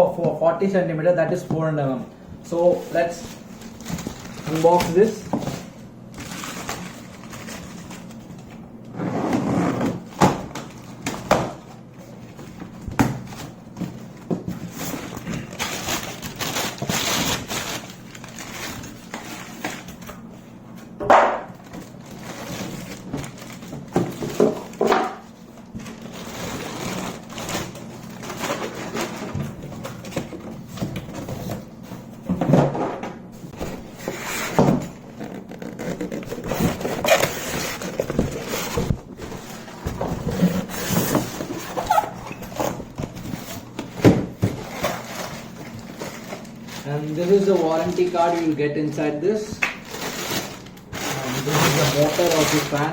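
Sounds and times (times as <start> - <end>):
cardboard rustling and scraping: 2.5 - 20.1, 21.6 - 32.8, 33.4 - 48.6, 49.8 - 52.9.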